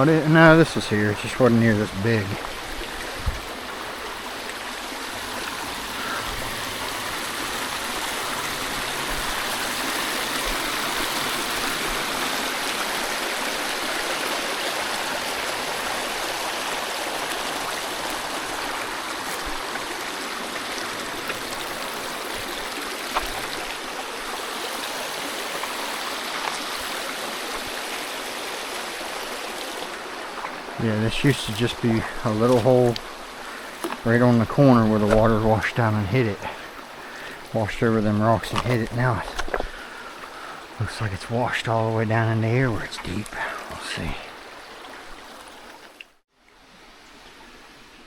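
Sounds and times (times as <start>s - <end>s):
creek water rushing: 0.0s - 48.0s.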